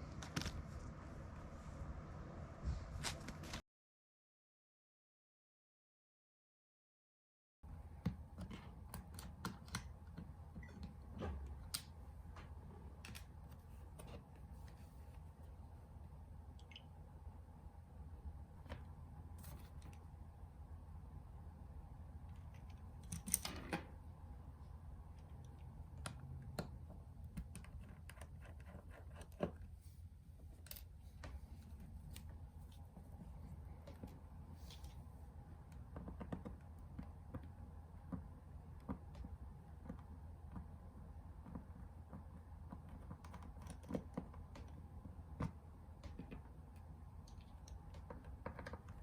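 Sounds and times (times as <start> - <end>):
low background hum: 0.0 - 3.6, 7.6 - 49.0.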